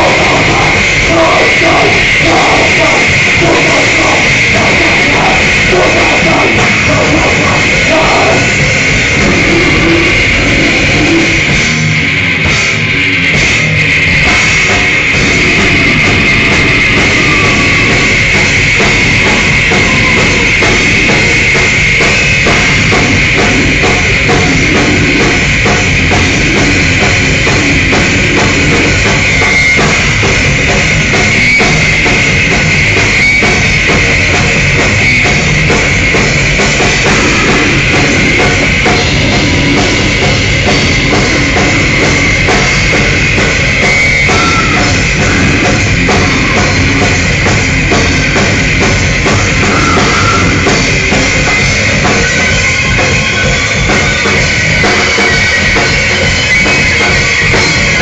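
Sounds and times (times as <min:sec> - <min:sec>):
bass guitar: 0:00.0 - 0:58.0
distorted electric guitars: 0:00.0 - 0:58.0
fast drumming with cymbals: 0:00.0 - 0:58.0.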